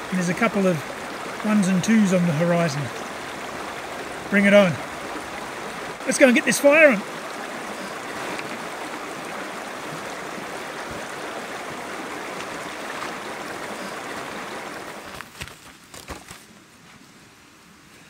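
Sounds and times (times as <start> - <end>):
creek running over stones: 0.0 - 16.6.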